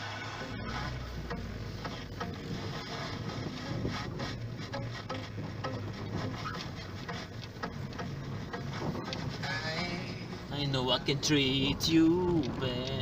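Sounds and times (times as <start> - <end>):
low engine hum: 0.0 - 13.0
tyres crunching on snow and ice: 0.0 - 13.0.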